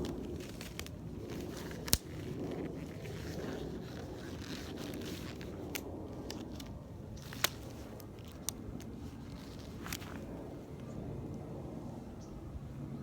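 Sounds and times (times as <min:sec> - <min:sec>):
handling rustling and scraping: 0:00.0 - 0:11.0.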